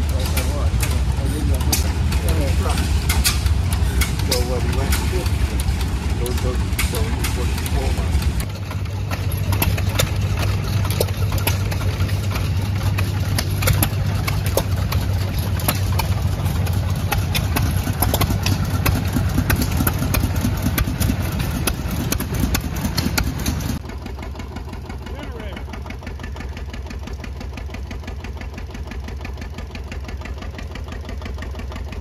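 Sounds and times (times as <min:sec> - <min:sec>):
stationary gas engines running: 0:00.0 - 0:32.0.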